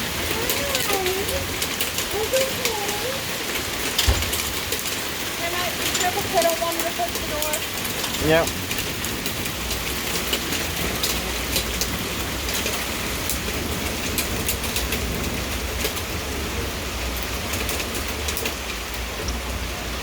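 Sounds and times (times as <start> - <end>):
hailstones clicking: 0.0 - 19.6
rain hiss: 0.0 - 20.0.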